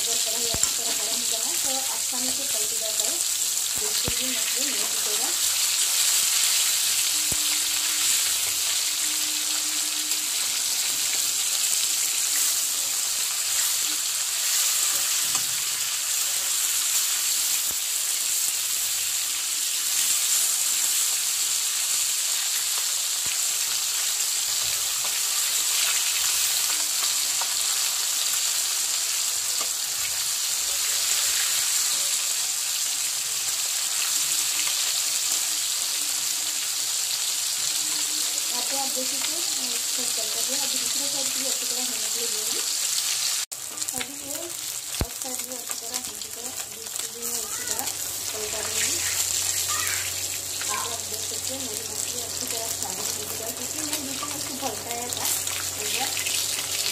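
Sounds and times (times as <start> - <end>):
fish sizzling in hot oil: 0.0 - 56.9.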